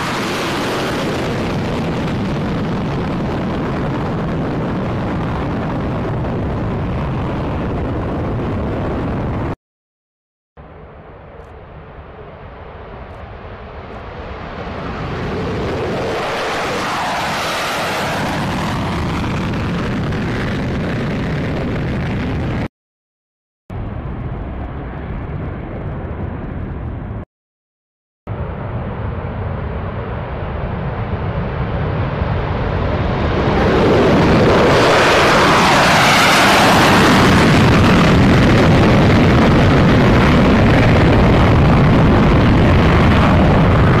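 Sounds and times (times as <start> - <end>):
jet engine rush: 0.0 - 9.6, 10.7 - 22.7, 28.3 - 44.0.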